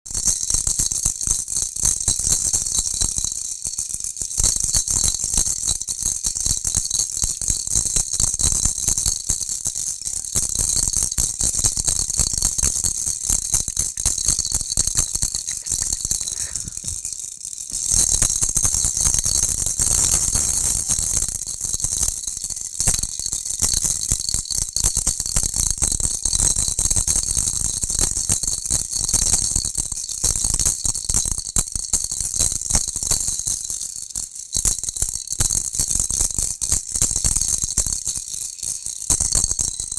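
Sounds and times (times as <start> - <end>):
baby's toy rattle shaken: 0.1 - 39.9.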